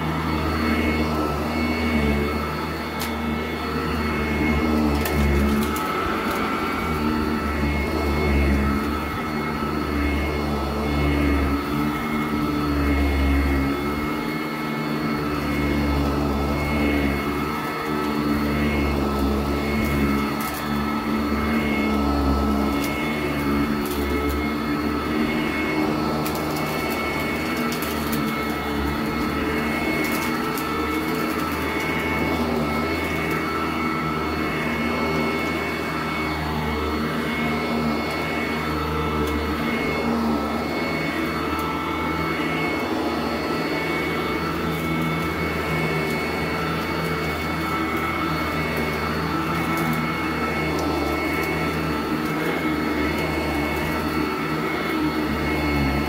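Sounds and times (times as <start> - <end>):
upright vacuum running on carpet: 0.0 - 56.0.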